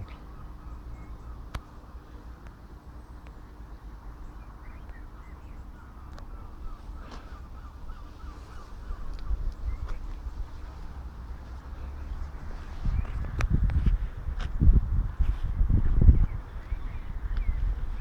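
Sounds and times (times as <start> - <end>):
birds chirping: 0.0 - 13.9, 16.0 - 18.0
low outdoor rumble: 0.0 - 18.0.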